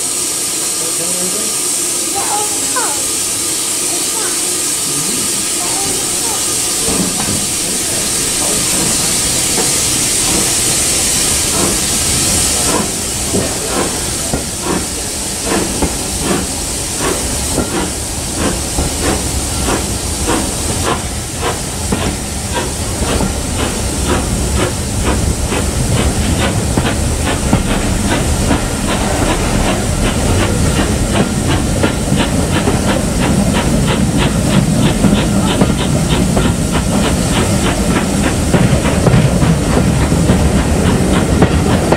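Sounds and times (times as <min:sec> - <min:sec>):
steam hissing: 0:00.0 - 0:41.9
steam locomotive exhaust beats: 0:00.0 - 0:41.9
wheels rumbling on rails: 0:03.7 - 0:41.9.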